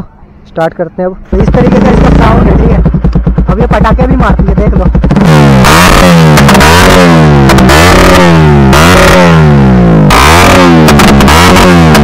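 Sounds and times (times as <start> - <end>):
exhaust pops and crackles: 1.3 - 9.3, 10.0 - 12.0
motorcycle engine revving: 1.3 - 12.0.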